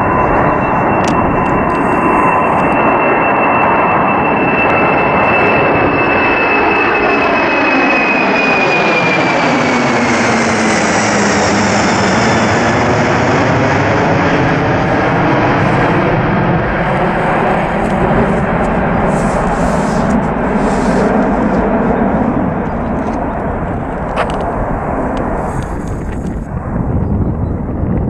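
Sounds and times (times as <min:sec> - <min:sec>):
jet engines at takeoff thrust: 0:00.0 - 0:28.0.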